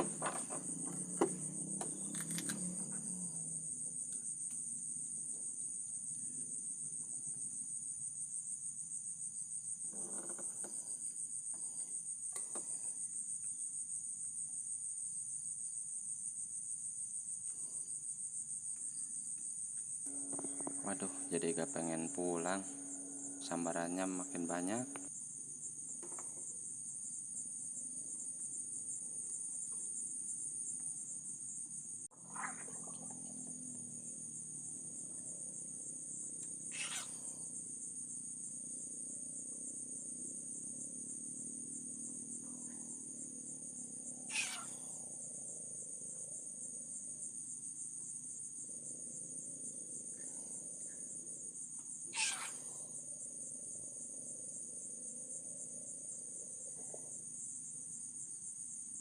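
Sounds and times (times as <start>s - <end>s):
crickets and insects trilling: 0.0s - 59.0s.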